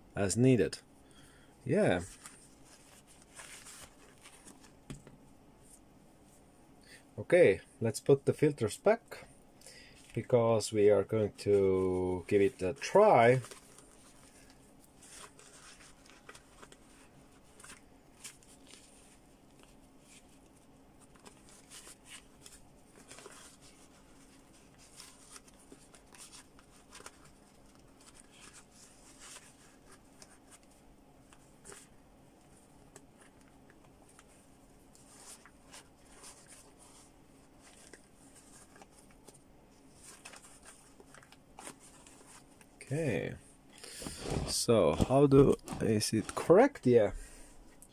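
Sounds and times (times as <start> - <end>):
fabric mask rustling and clicking: 2.0 - 6.4, 11.3 - 42.8, 44.0 - 46.8.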